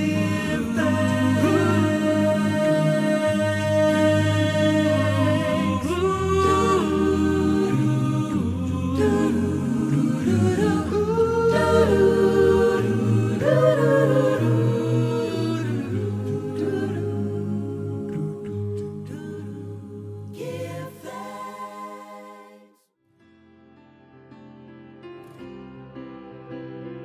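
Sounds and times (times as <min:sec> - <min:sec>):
hymn-like vocal music: 0:00.0 - 0:22.8.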